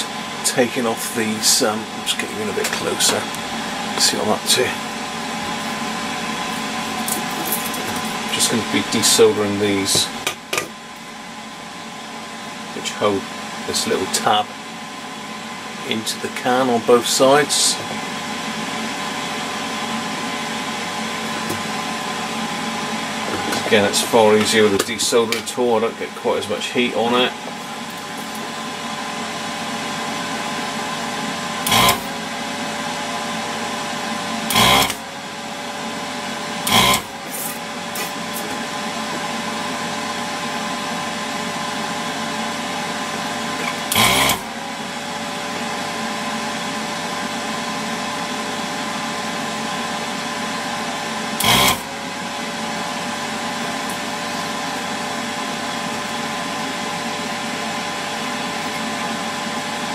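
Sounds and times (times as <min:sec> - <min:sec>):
vacuum pump humming: 0:00.0 - 0:59.9.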